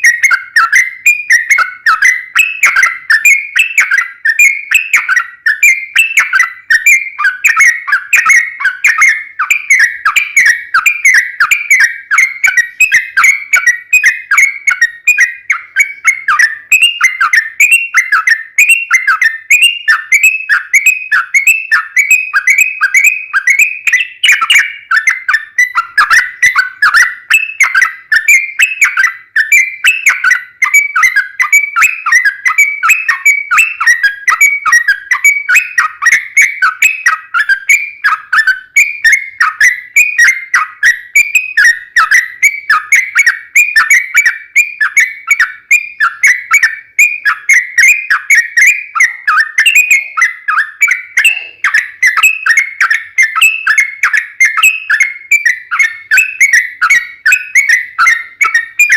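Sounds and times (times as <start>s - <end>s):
bulbul singing whistled notes: 0.0s - 58.9s.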